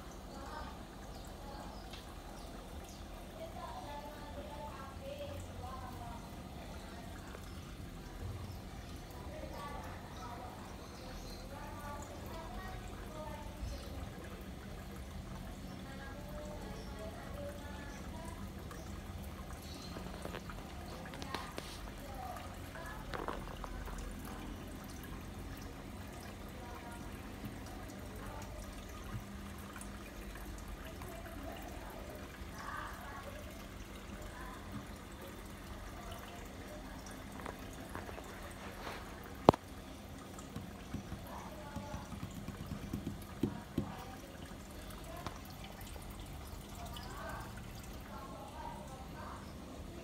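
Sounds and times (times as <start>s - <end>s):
water trickling and bubbling: 0.0s - 50.0s.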